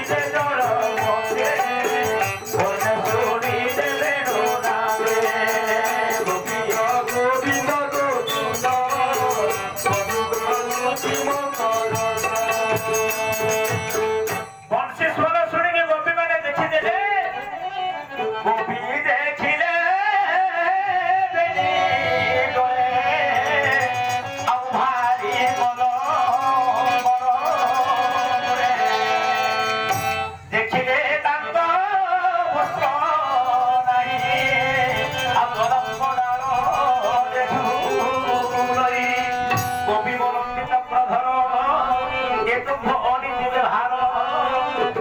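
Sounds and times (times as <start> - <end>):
harmonium held notes: 0.0 - 15.6, 21.3 - 45.0
man singing devotional song: 0.0 - 45.0
tabla: 0.0 - 45.0.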